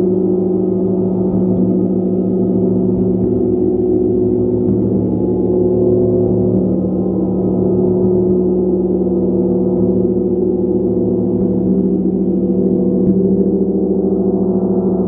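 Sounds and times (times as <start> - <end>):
gong resonating: 0.0 - 15.0
soft gong stroke: 0.0 - 15.0.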